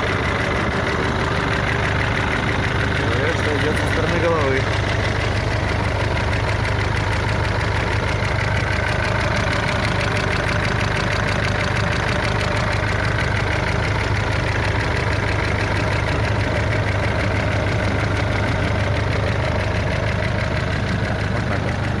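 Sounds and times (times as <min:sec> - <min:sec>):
diesel engine idling with ticking knock: 0:00.0 - 0:22.0.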